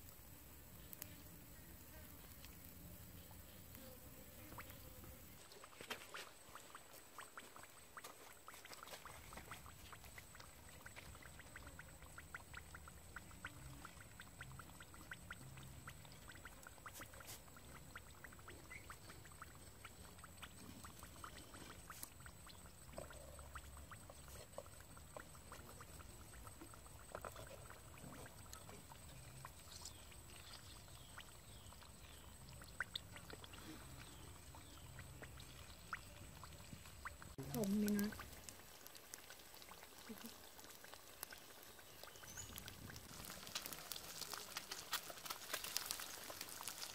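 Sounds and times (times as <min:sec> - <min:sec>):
eggs sizzling and crackling: 0:00.0 - 0:46.9.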